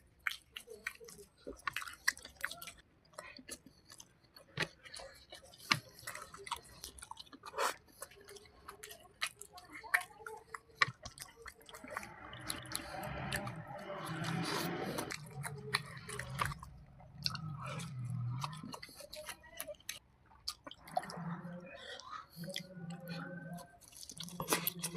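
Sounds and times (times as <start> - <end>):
person chewing food: 0.0 - 24.9.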